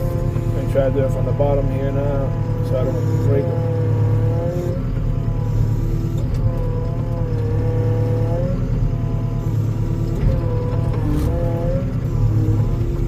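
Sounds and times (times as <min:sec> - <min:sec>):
skid steer engine under load: 0:00.0 - 0:13.0.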